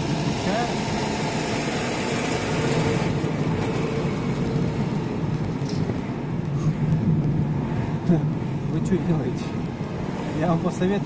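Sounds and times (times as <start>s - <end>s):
tyre noise on road: 0.0s - 11.0s.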